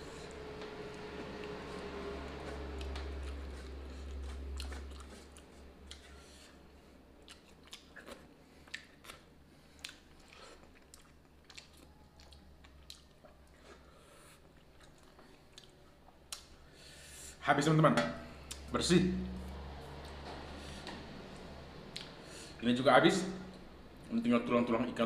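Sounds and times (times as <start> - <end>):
man chewing food: 0.0 - 17.1, 19.5 - 22.5.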